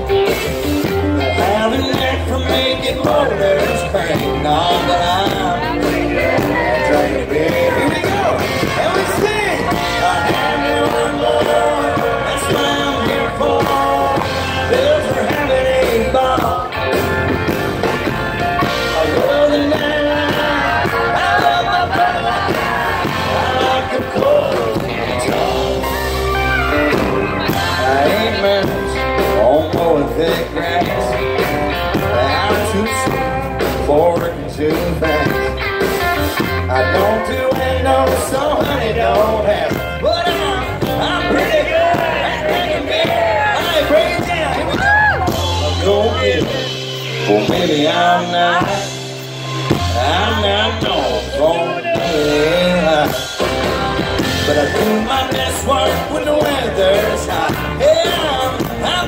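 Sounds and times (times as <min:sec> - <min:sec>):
live country-rock band: 0:00.0 - 0:59.0
male lead vocal: 0:00.0 - 0:59.0.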